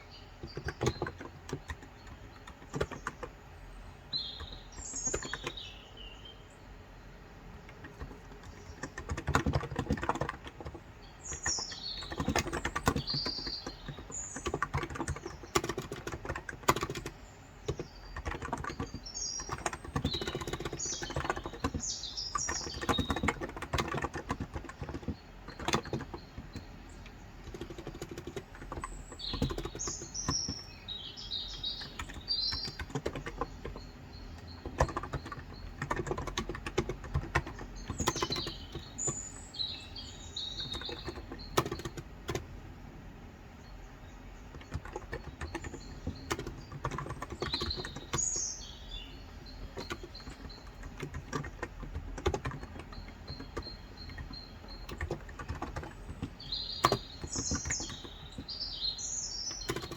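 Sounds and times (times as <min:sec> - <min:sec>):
typing on a keyboard: 0:00.0 - 0:05.8, 0:07.5 - 0:43.5, 0:44.2 - 0:59.9
small birds chirping: 0:00.0 - 0:59.9.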